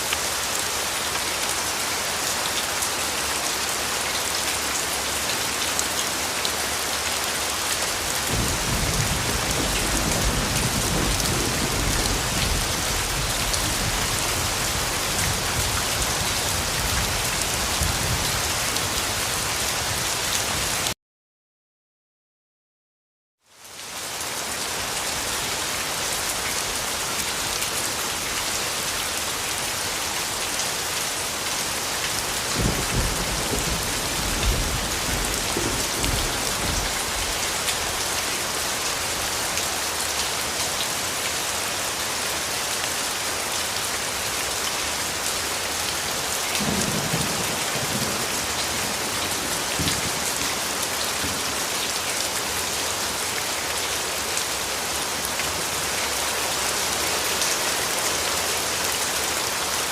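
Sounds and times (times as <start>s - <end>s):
heavy rain falling: 0.0s - 21.0s, 23.6s - 59.9s.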